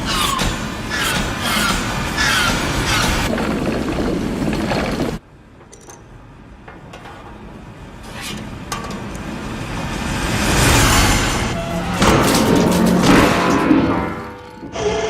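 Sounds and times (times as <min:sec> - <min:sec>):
dense mechanical noise: 0:00.0 - 0:15.0.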